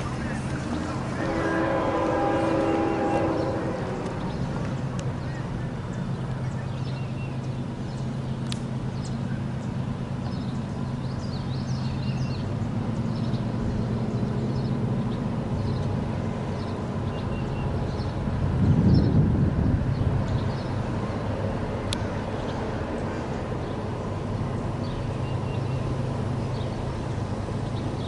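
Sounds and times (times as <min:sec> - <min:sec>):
birds chirping: 0:00.0 - 0:28.0
locomotive engines rumbling: 0:00.0 - 0:28.0.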